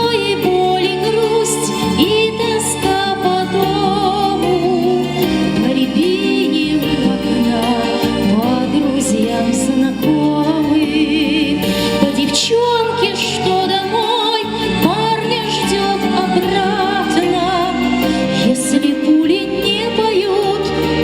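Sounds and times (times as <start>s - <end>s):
instrumental accompaniment: 0.0s - 21.0s
woman singing with vibrato: 0.0s - 21.0s.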